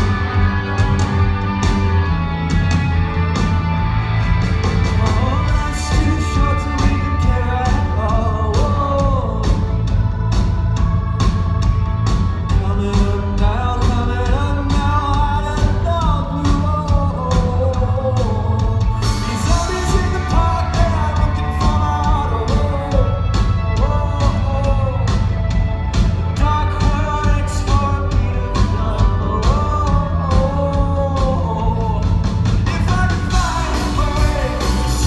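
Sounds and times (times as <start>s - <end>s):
live rock band with male singer: 0.0s - 35.0s.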